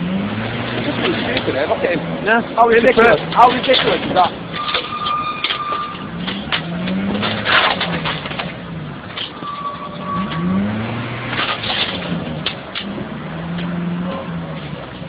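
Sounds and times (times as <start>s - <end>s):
car engine revving: 0.0s - 15.0s
loud scraping and clunking: 2.6s - 15.0s.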